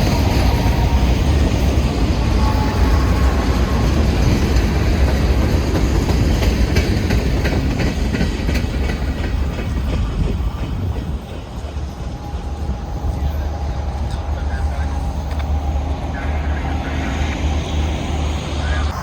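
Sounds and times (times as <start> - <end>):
train wheels clicking over rail joints: 0.0 - 16.2
freight train cars rumbling past: 0.0 - 19.0.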